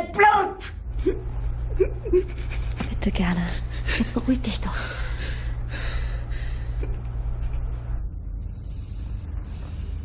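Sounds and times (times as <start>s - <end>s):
low rumble and hum: 0.0s - 10.0s.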